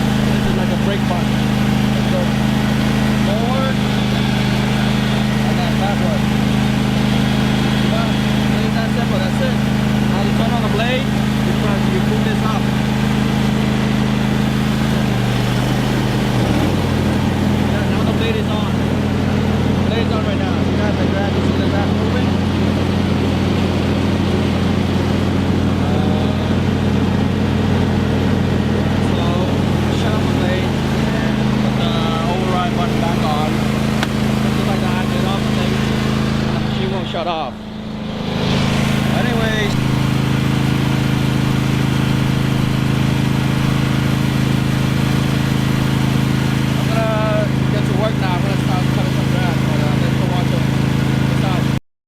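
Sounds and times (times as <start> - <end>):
riding lawnmower engine running: 0.0 - 51.8.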